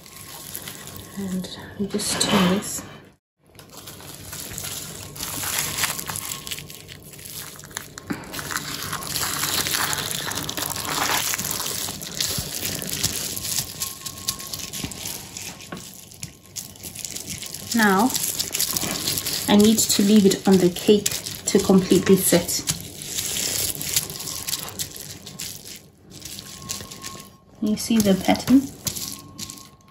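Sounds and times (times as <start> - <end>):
bubble wrap crinkling: 0.0 - 1.6, 3.5 - 29.9.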